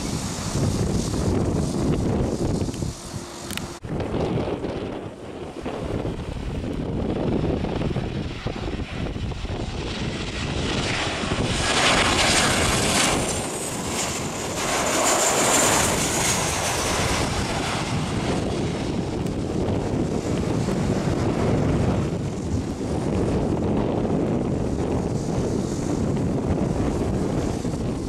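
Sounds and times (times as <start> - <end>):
jet airliner passing overhead: 0.0 - 28.0
wind noise on microphone: 0.0 - 28.0.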